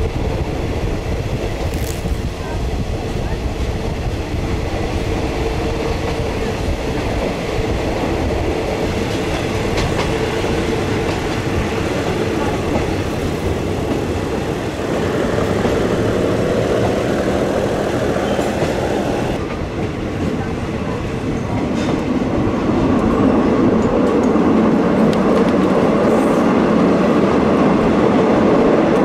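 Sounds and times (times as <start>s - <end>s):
train wheels on rails: 0.0s - 29.0s.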